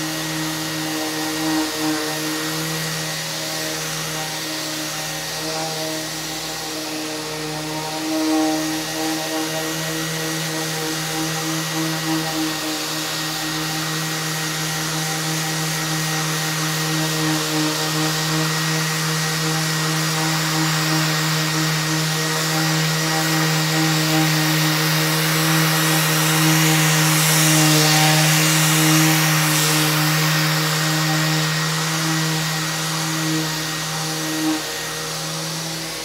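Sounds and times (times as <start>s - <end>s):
dust extractor whine: 0.0s - 36.0s
orbital sander humming: 0.0s - 36.0s
sandpaper hissing on wood: 0.0s - 36.0s.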